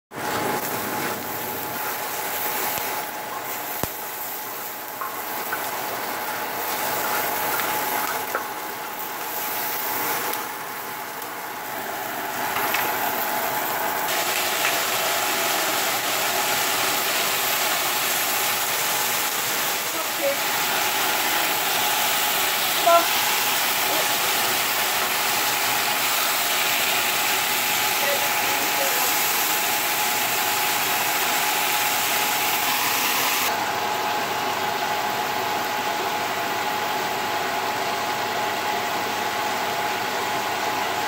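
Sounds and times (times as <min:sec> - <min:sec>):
food sizzling in oil: 0:00.1 - 0:36.1.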